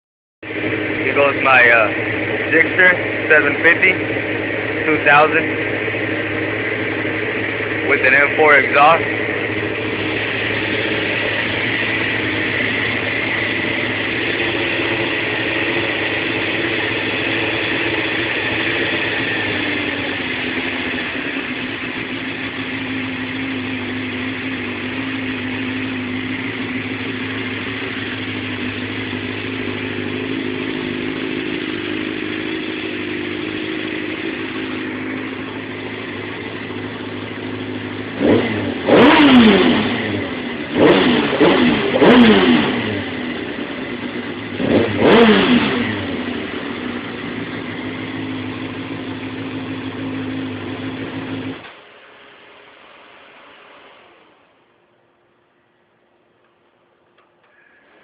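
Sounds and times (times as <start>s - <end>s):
motorcycle engine revving: 0.4s - 54.7s
motorcycle engine idling: 0.4s - 58.0s.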